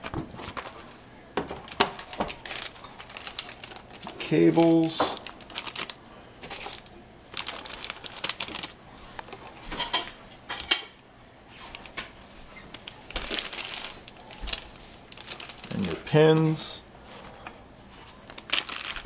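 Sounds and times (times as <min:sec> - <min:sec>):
plastic bags crinkling: 0:00.0 - 0:10.1, 0:11.5 - 0:16.8, 0:18.0 - 0:19.0.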